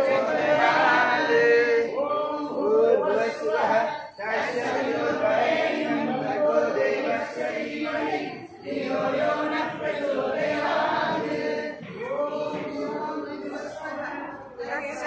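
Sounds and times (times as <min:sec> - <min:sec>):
women singing a devotional chant: 0:00.0 - 0:15.0.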